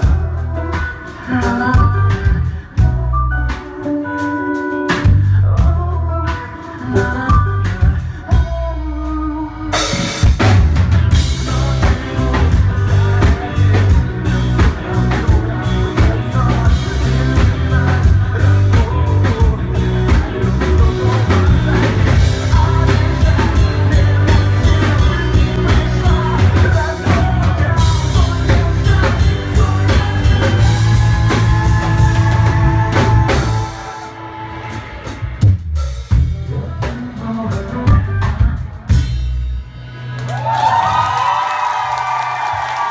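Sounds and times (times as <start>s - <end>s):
person singing: 0.0s - 10.4s, 11.1s - 35.2s, 36.3s - 39.0s
band playing: 0.0s - 42.9s.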